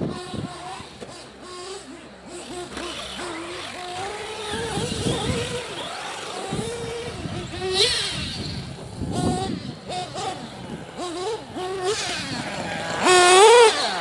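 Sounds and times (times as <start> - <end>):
rc car engines whining: 0.0 - 14.0.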